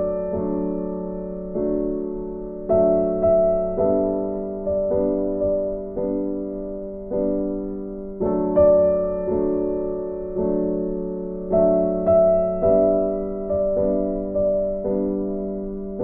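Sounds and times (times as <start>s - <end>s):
soft electric piano chords: 0.0s - 16.0s.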